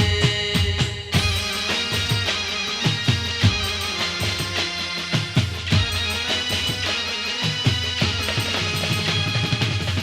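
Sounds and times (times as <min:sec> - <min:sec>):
devotional folk music: 0:00.0 - 0:10.0
drum kit beat: 0:00.0 - 0:10.0
sustained melody instruments: 0:01.1 - 0:10.0.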